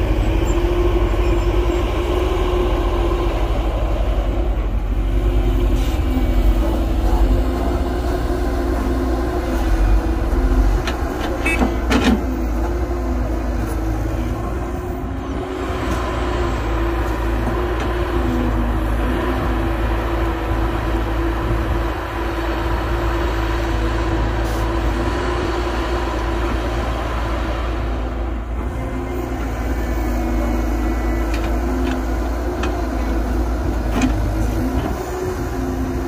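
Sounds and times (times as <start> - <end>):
heavy diesel engines running: 0.0 - 36.0.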